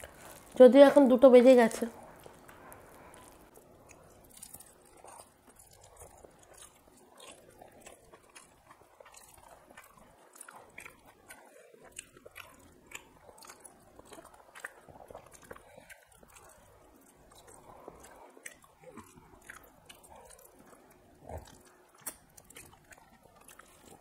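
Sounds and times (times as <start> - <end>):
people chewing food: 0.0 - 24.0.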